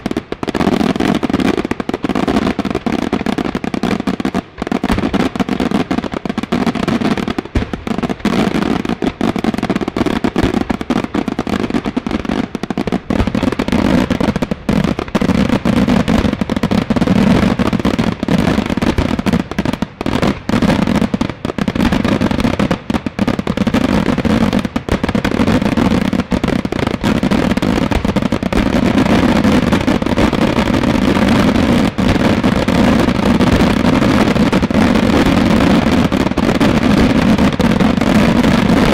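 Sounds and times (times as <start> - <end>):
fireworks bursting: 0.0 - 38.9.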